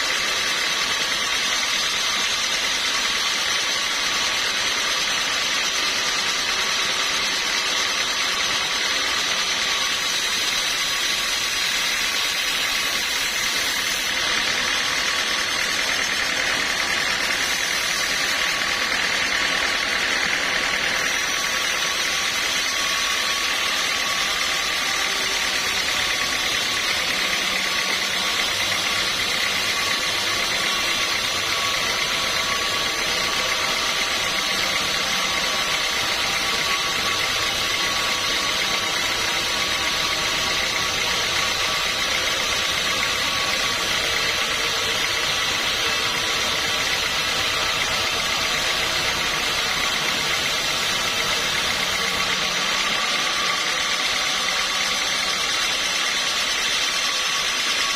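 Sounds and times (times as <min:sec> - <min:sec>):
sawmill machinery whine: 0:00.0 - 0:57.9.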